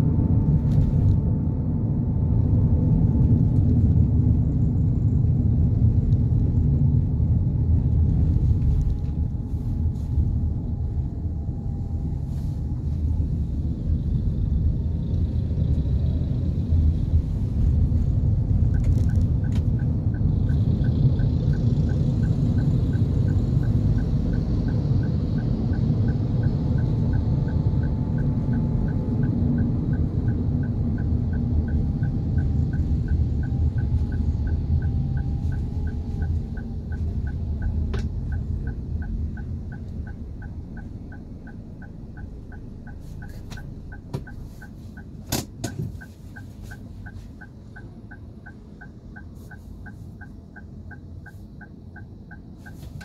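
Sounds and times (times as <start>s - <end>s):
car cabin road and engine rumble: 0.0s - 53.0s
turn signal ticking: 5.3s - 53.0s.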